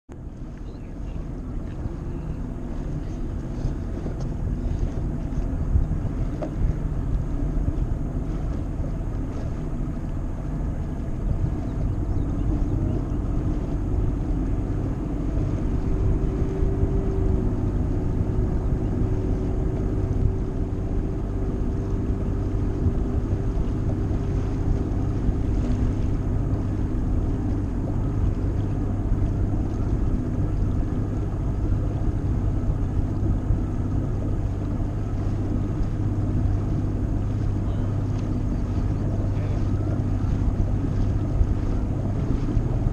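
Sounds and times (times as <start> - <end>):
outboard motor running: 0.1 - 42.9
wind noise on microphone: 0.1 - 42.9.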